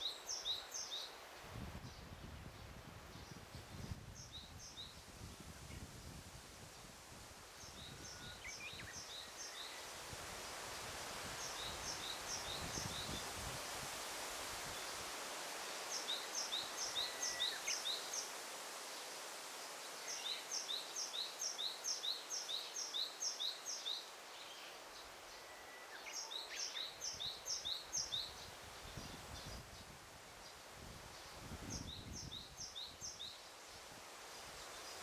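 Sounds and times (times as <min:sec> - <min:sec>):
rustling leaves: 0:00.0 - 0:35.0.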